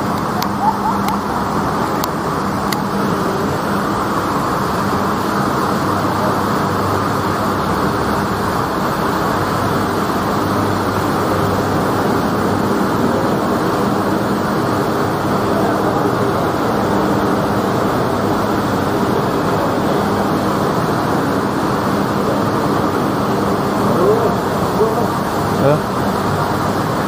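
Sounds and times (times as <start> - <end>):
continuous urban rush: 0.0 - 27.0.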